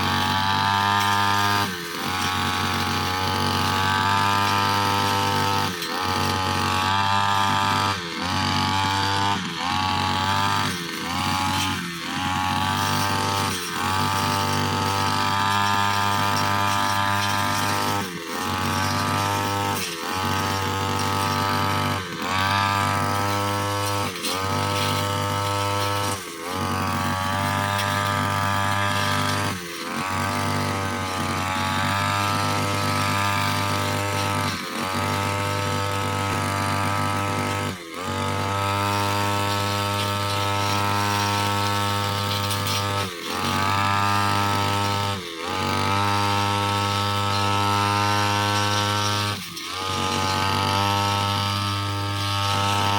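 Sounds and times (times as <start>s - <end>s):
brushcutter engine running: 0.0s - 52.9s.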